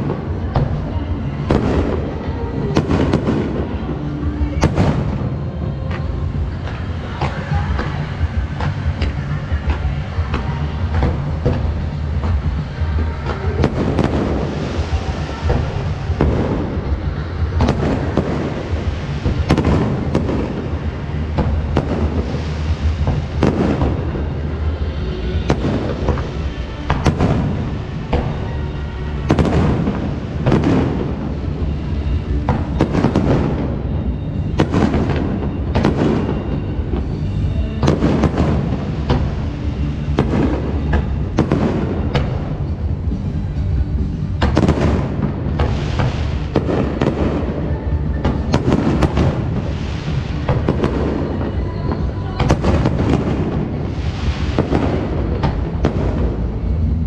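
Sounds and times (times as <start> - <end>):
fireworks bangs with crackling: 0.0 - 57.0
music playing: 0.0 - 57.0.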